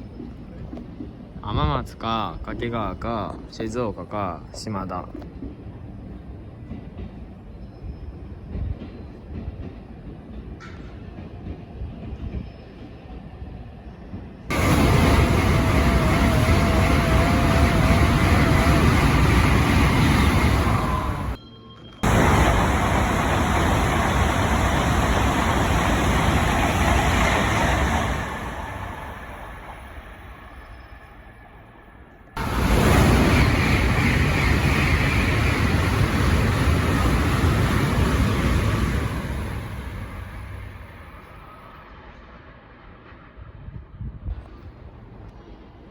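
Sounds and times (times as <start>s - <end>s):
train passing with rushing roar: 0.0s - 45.9s.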